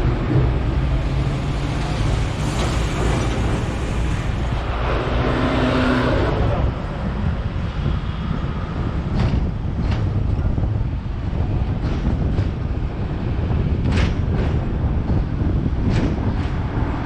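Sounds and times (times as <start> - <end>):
tram rumbling on track: 0.0 - 17.0.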